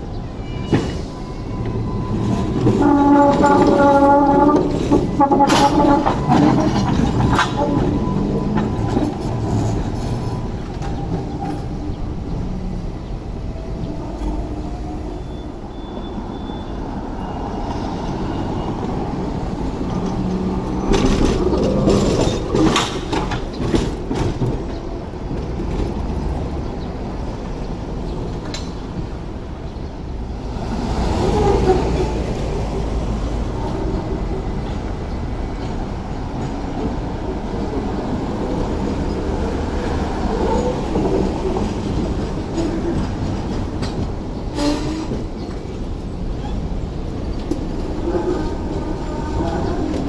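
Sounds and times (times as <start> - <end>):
tram rumble and hum: 0.0 - 50.0
tram wheels clicking on rails: 0.7 - 50.0.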